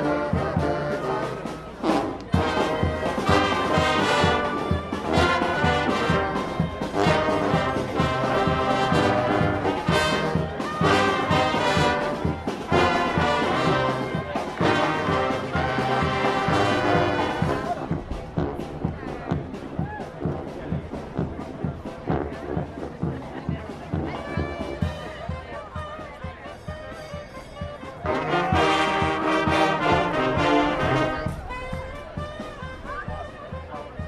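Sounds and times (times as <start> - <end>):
drums keeping a steady beat: 0.0 - 34.0
trombones and trumpets: 0.0 - 34.0.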